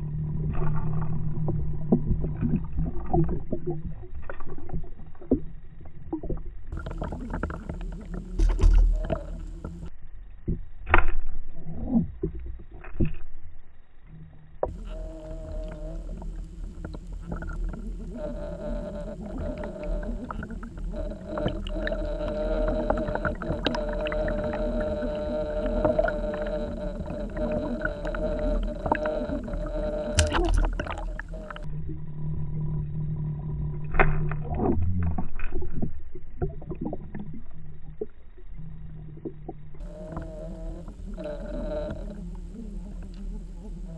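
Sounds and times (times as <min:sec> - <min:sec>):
mechanical humming drone: 0:00.0 - 0:43.9
underwater rumble of moving water: 0:00.0 - 0:43.9.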